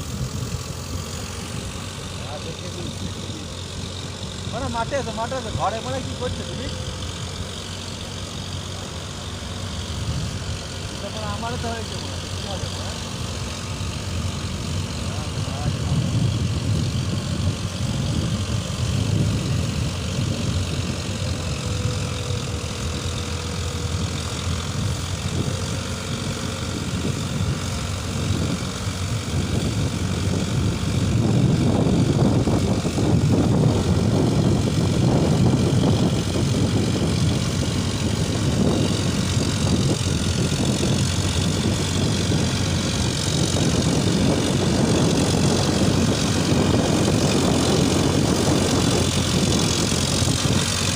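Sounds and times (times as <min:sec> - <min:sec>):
tractor diesel engine drone: 0:00.0 - 0:50.9.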